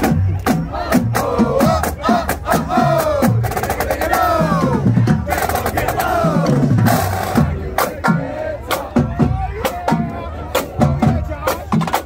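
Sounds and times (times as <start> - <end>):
drumline marching cadence: 0.0 - 12.0
voices chanting in rhythm: 0.0 - 12.0.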